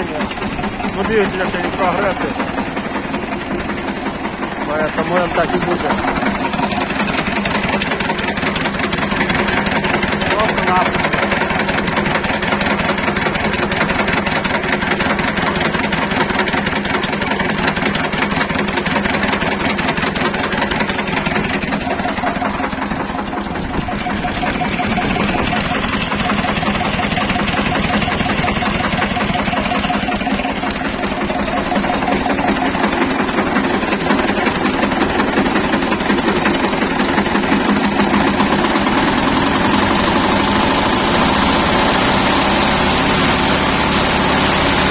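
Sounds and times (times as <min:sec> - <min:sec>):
tractor diesel engine knocking: 0:00.0 - 0:44.9.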